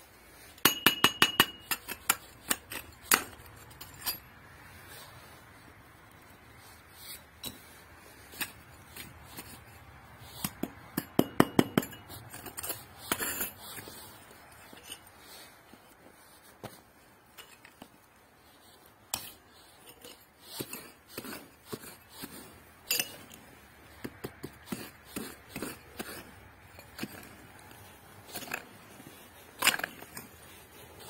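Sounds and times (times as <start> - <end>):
hoe scraping stony soil: 1.5 - 31.0.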